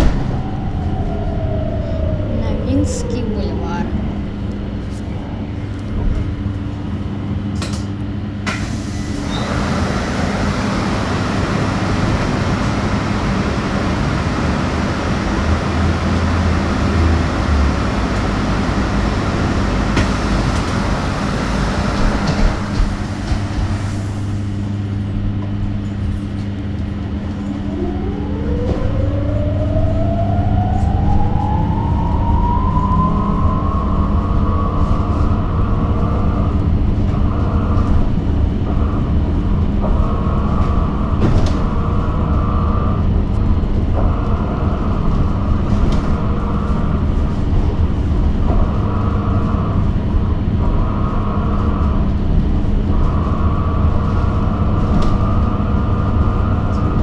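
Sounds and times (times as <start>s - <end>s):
bus interior hum: 0.0s - 57.0s.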